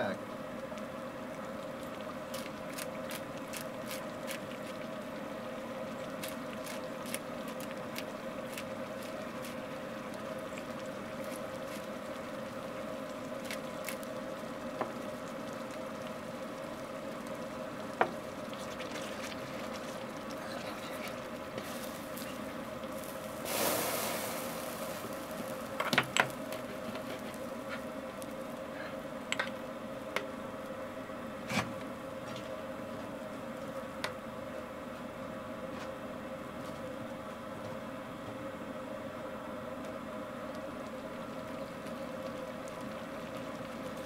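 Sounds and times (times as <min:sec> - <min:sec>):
liquid bubbling in pan: 0:00.0 - 0:44.0
steady hum: 0:00.0 - 0:44.0.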